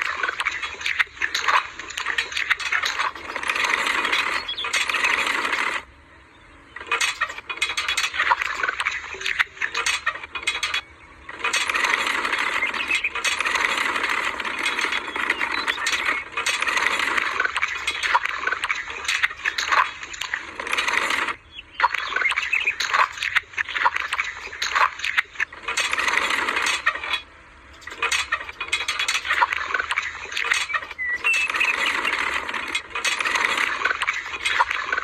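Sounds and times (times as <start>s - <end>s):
tractor and trolley rattling: 0.0s - 5.9s, 6.8s - 35.0s.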